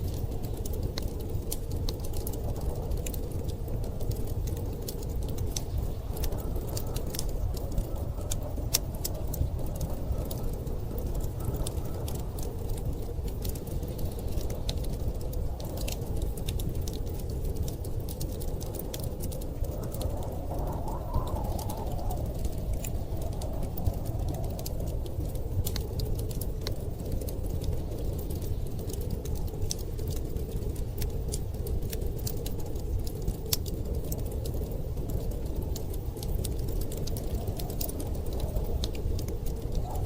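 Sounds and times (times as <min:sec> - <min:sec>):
storm wind rushing: 0:00.0 - 0:40.0
wood fire crackling and popping: 0:00.0 - 0:40.0.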